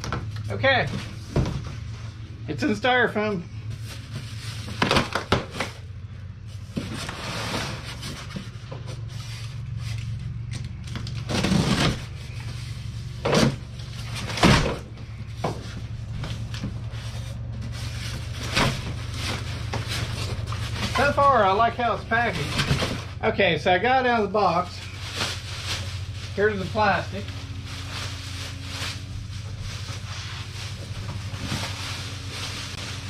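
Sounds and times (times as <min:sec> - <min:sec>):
cardboard and styrofoam being handled: 0:00.0 - 0:33.0.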